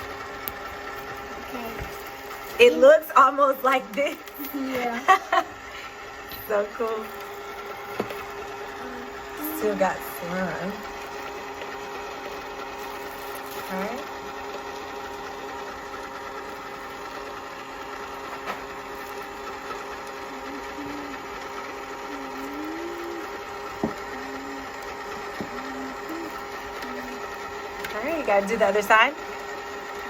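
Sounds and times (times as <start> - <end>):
small electric motor humming: 0.0 - 30.0.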